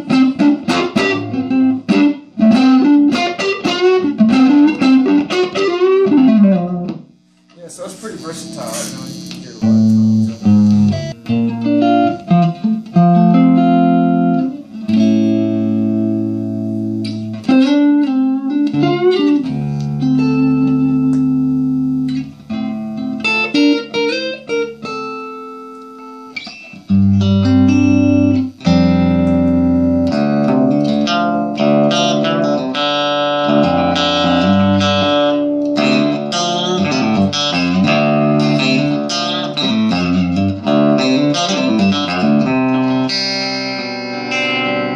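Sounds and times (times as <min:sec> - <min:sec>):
electric guitar through amplifier: 0:00.0 - 0:44.9.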